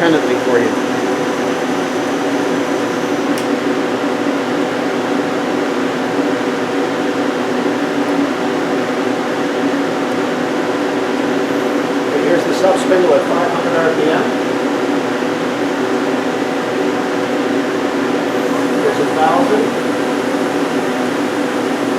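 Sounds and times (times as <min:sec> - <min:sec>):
lathe mechanical hum: 0:00.0 - 0:21.9.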